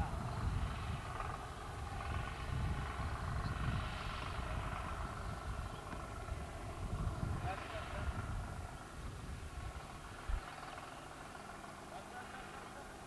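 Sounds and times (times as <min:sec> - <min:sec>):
tractor diesel engine rumbling: 0:00.0 - 0:13.0.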